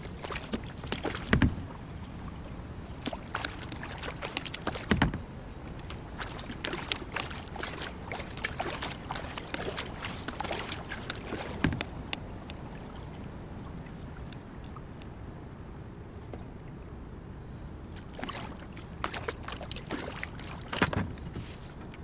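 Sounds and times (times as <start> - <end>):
paddle splashing water: 0.0 - 14.3, 17.9 - 21.7
rush of water: 0.0 - 15.1, 17.9 - 22.0
water lapping against hull: 0.0 - 15.4, 16.1 - 22.0.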